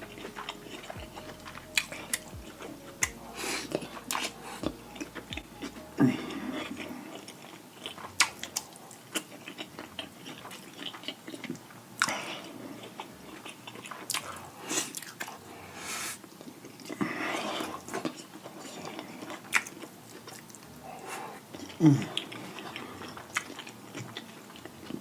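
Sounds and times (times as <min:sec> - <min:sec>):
wet chewing and biting: 0:00.0 - 0:15.4, 0:16.3 - 0:25.0.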